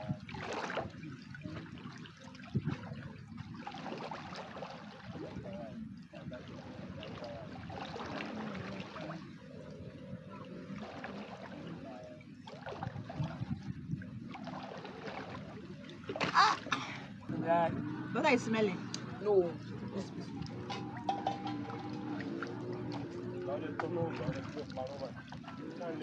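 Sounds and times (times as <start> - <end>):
water splashing and trickling: 0.0 - 26.0.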